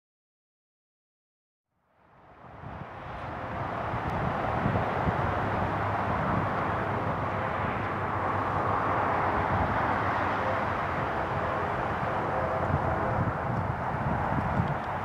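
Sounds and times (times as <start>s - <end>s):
distant vehicle rumble: 2.3s - 15.0s.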